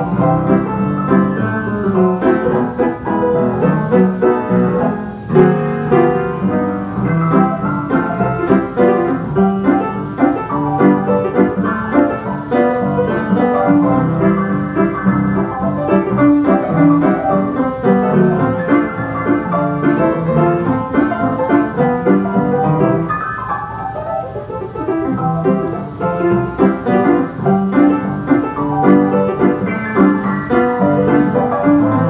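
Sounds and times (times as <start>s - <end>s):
piano music: 0.0s - 32.0s.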